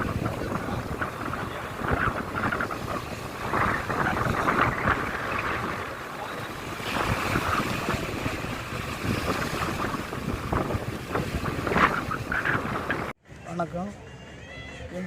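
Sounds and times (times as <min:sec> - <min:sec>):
waves washing: 0:00.0 - 0:13.2
wind buffeting microphone: 0:00.0 - 0:13.2.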